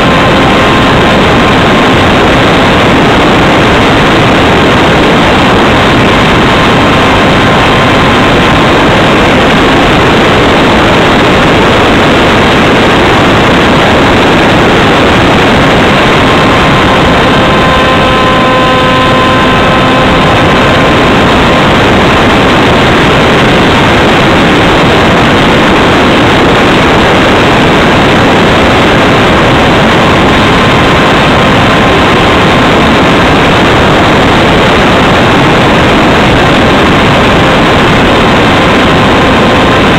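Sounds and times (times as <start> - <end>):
electric motor and propeller whine: 0.0 - 39.9
wind rushing over camera: 0.0 - 39.9.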